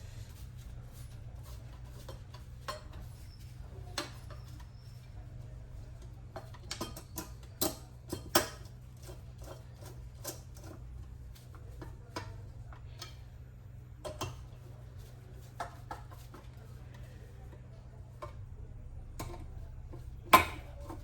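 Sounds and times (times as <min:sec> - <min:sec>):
steady low hum: 0:00.0 - 0:06.9, 0:08.8 - 0:21.0.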